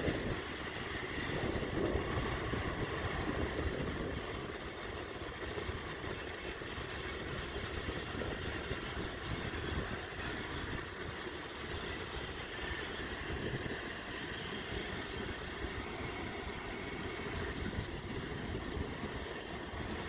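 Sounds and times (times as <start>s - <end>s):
distant freight train rumble: 0.0s - 20.0s.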